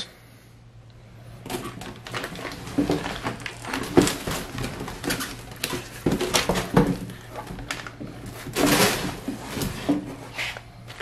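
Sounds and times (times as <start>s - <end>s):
foam packing rustling: 1.4s - 11.0s
plastic bag rustling: 1.4s - 11.0s.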